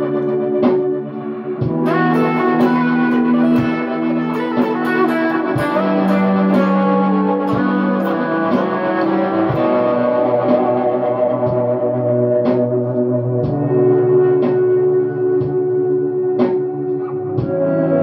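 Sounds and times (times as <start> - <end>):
electric guitar with reverb: 0.0 - 18.0.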